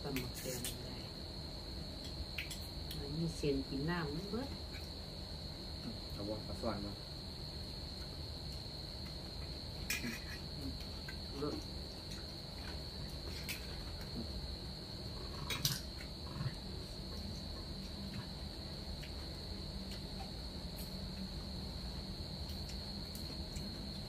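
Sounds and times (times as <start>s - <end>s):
insect chirring: 0.0s - 24.0s.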